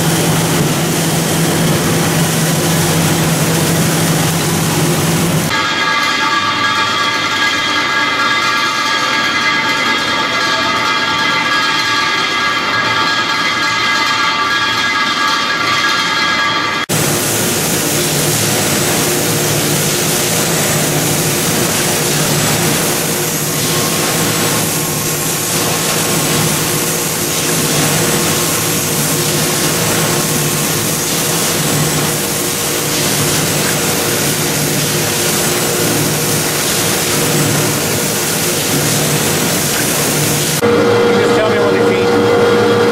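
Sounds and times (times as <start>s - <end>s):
conveyors and plant machinery: 0.0s - 42.9s.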